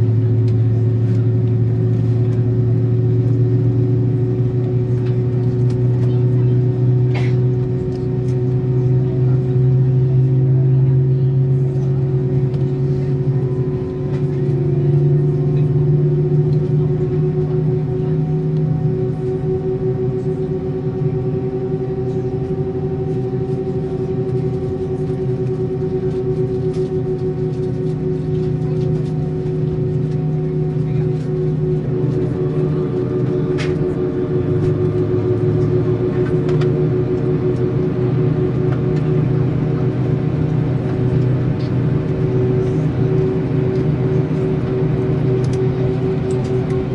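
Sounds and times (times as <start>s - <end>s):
aircraft cabin machinery hum: 0.0s - 46.9s.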